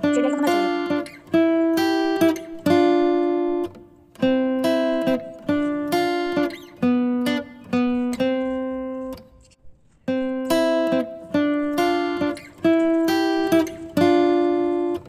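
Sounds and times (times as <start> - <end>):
acoustic guitar plucking: 0.0 - 9.4, 10.1 - 15.0.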